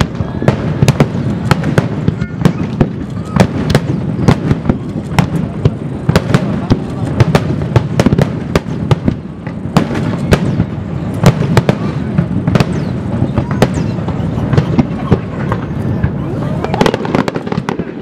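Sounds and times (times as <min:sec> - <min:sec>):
firework shells bursting: 0:00.0 - 0:18.0
rumble of overlapping explosions: 0:00.0 - 0:18.0.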